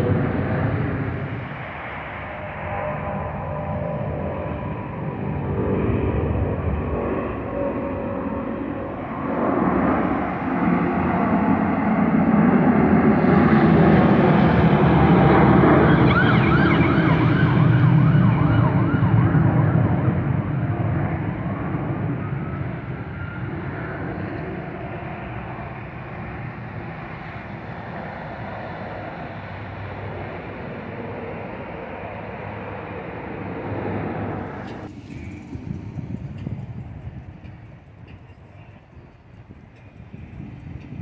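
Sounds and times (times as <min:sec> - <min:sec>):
aircraft engine passing: 0:00.0 - 0:41.0
wavering engine whine: 0:00.0 - 0:41.0.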